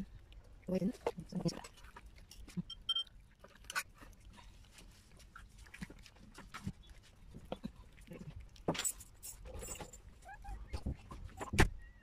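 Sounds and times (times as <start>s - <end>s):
cat chewing and lapping food: 0.0s - 12.0s.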